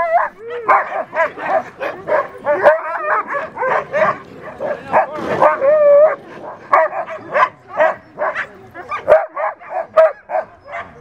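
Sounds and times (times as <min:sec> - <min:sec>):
sled dogs barking and yipping: 0:00.0 - 0:11.0.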